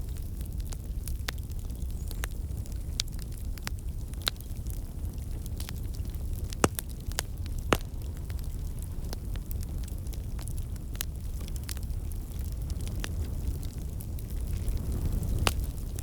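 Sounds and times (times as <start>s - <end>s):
fire rumbling: 0.0s - 16.0s
wood fire crackling and popping: 0.0s - 16.0s.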